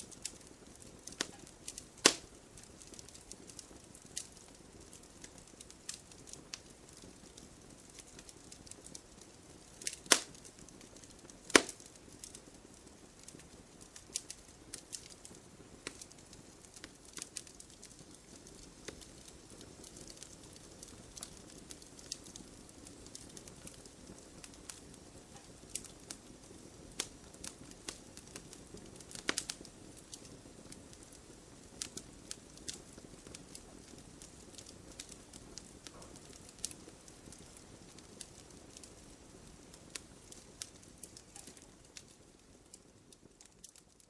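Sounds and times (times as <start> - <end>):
campfire crackling: 0.0 - 44.0.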